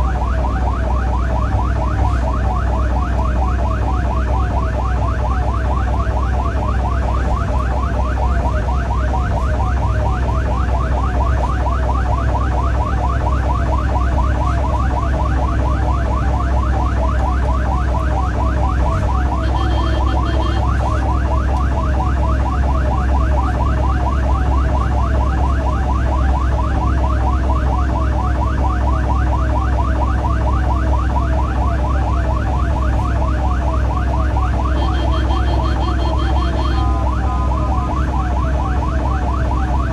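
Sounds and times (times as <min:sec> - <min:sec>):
ambulance siren fast yelp: 0:00.0 - 0:39.9
engine and road rumble: 0:00.0 - 0:39.9.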